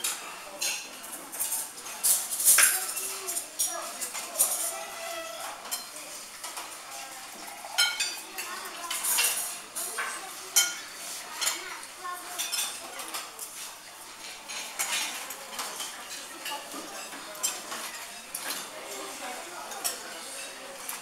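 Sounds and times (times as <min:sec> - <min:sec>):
cutlery clinking on plates: 0:00.0 - 0:11.7, 0:12.3 - 0:21.0.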